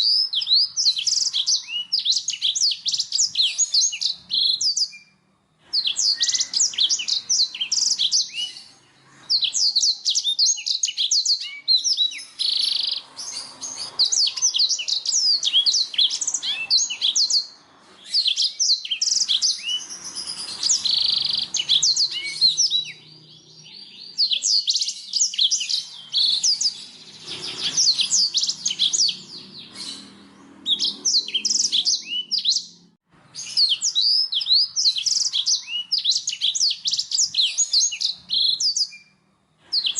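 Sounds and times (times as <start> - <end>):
canary singing high chirps: 0.0 - 39.9.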